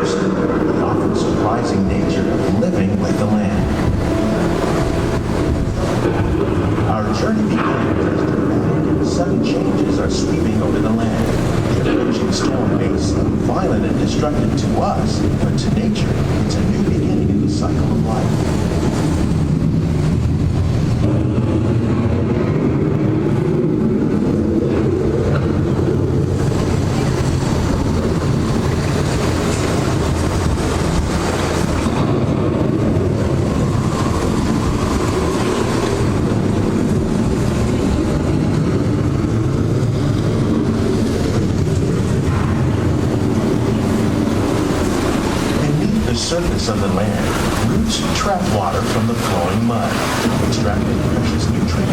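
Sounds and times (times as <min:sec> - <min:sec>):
rolling thunder over speakers: 0:00.0 - 0:51.9
wind over speakers: 0:00.0 - 0:51.9.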